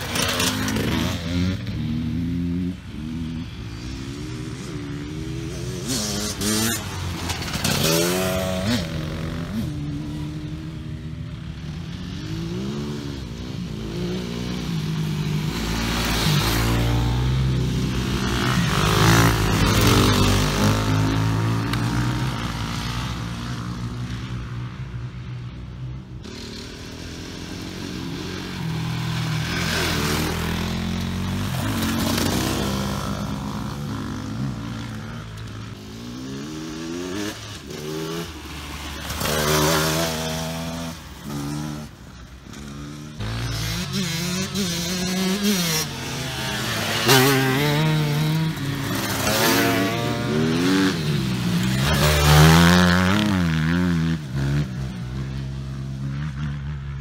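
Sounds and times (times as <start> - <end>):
motorcycles revving past: 0.0 - 57.0.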